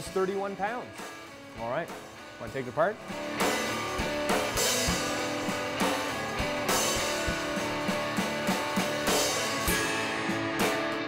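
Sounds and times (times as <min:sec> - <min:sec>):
guitar music: 0:00.0 - 0:11.0
steady drum beat: 0:00.0 - 0:11.0.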